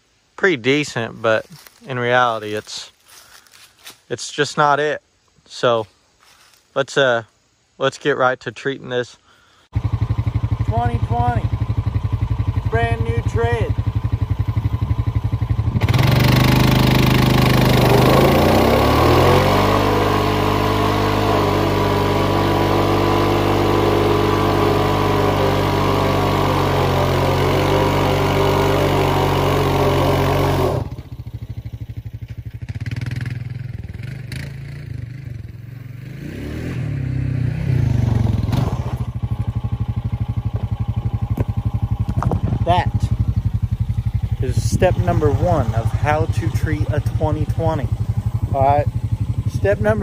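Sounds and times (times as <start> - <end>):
atv engine revving: 9.7 - 50.0.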